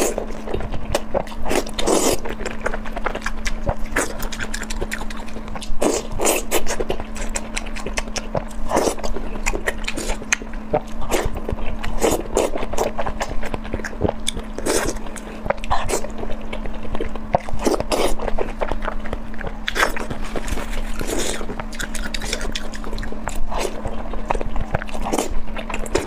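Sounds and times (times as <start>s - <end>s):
crunchy chewing: 0.0s - 26.0s
steady low hum: 0.0s - 26.0s.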